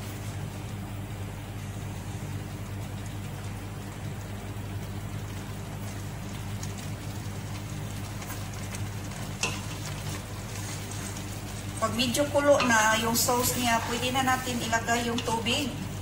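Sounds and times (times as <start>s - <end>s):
low steady hum: 0.0s - 16.0s
food sizzling in a pot: 1.8s - 16.0s.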